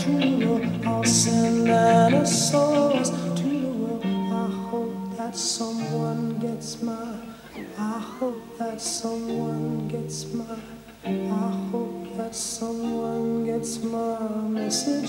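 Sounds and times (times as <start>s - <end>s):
electric guitar chords: 0.0s - 15.0s
man singing rock song: 0.0s - 15.0s.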